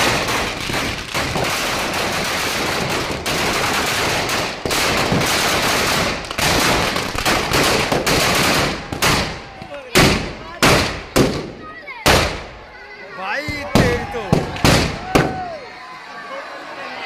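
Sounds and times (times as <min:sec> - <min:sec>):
firecrackers crackling: 0:00.0 - 0:12.7, 0:13.4 - 0:15.6.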